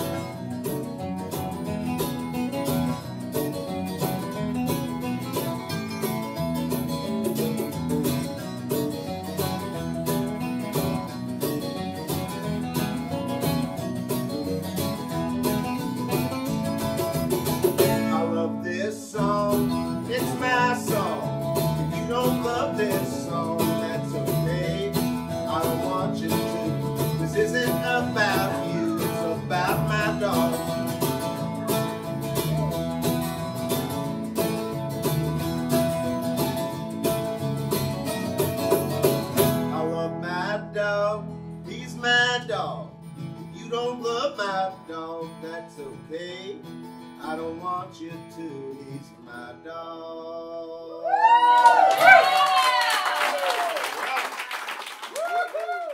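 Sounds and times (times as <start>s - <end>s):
country-rock band playing: 0.0s - 48.9s
lead guitar line: 0.0s - 49.2s.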